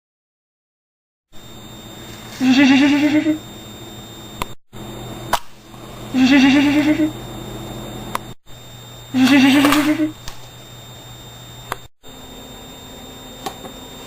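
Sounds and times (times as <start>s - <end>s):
steady background hum: 1.4s - 14.0s.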